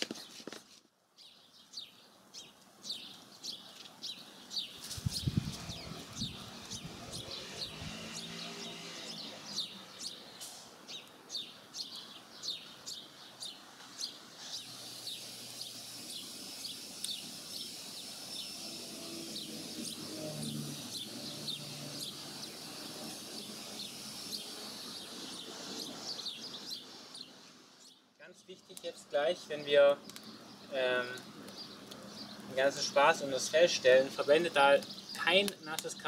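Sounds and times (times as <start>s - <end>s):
small bird chirping: 1.2s - 28.2s, 29.6s - 35.9s
steady high hiss: 1.4s - 36.0s.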